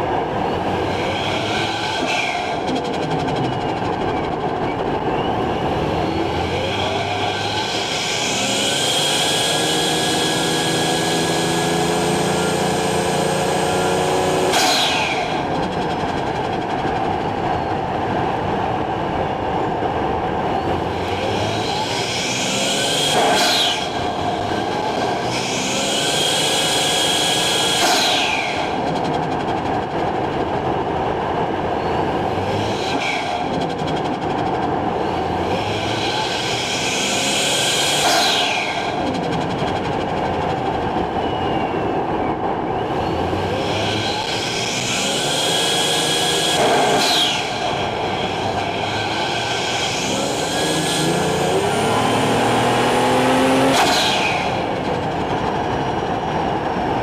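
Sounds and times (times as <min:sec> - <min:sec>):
car engine running under load: 0:00.0 - 0:57.0.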